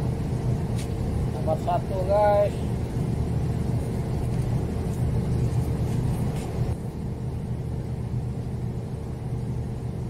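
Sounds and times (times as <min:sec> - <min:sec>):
faint steady hum: 0:00.0 - 0:10.0
ship machinery rumble: 0:00.0 - 0:10.0.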